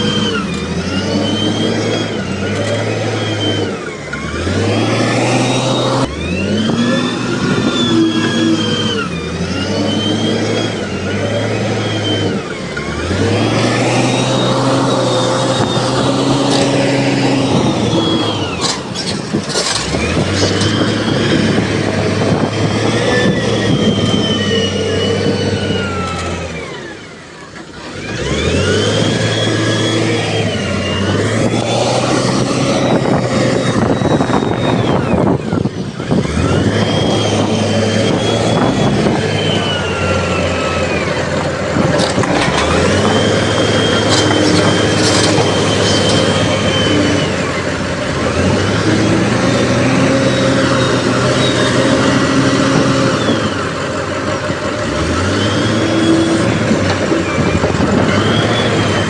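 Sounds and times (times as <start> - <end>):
heavy machinery diesel engine revving: 0.0 - 59.0.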